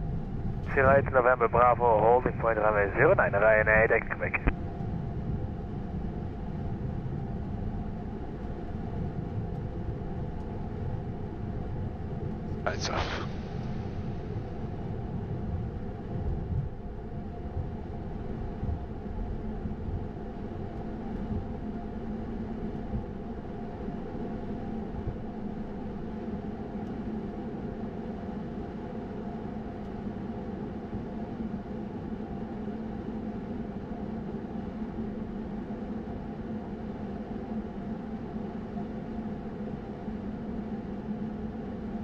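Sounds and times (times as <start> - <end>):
jet engines humming at idle: 0.0 - 42.0.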